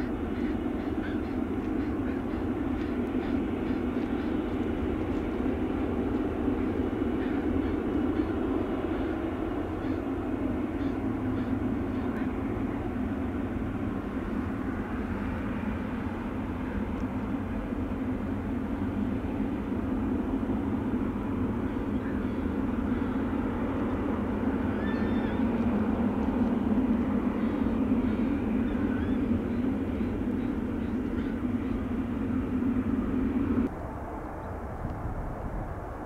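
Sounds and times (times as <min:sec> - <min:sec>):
jet engines humming: 0:00.0 - 0:36.0.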